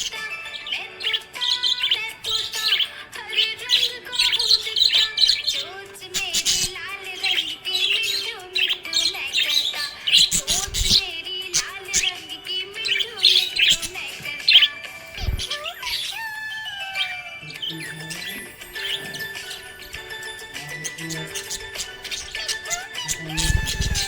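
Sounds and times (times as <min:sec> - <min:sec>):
background music: 0:00.0 - 0:24.0
budgerigars chirping and warbling: 0:00.0 - 0:24.0.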